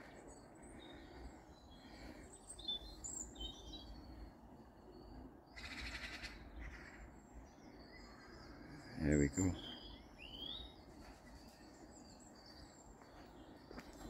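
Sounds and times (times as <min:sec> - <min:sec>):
small birds chirping faintly: 0:00.0 - 0:14.0.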